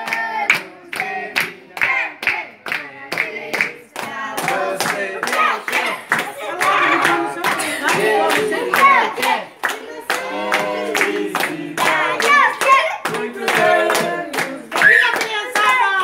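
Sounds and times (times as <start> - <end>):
group singing a birthday tune: 0.0 - 16.0
people clapping: 0.0 - 16.0.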